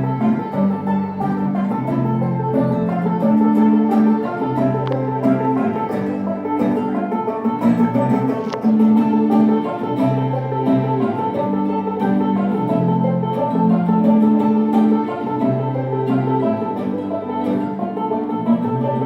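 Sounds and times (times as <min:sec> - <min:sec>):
banjo: 0:00.0 - 0:19.0
mandolin: 0:00.0 - 0:19.0.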